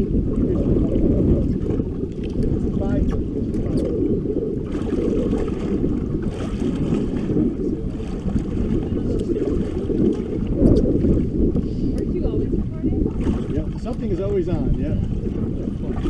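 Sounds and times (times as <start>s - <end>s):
water sloshing against boat hull: 0.0s - 16.0s
wind rumbling on microphone: 0.0s - 16.0s.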